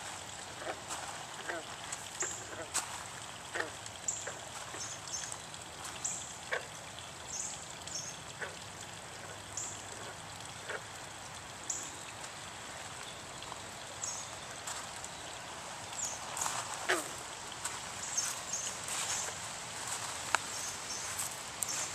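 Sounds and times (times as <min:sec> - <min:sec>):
soft water plinks: 0:00.0 - 0:21.9
water trickling: 0:00.0 - 0:21.9.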